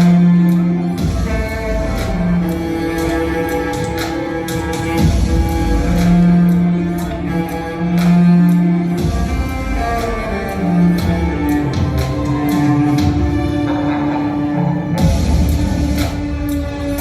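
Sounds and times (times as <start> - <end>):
sustained string-like tones: 0.0 - 17.0.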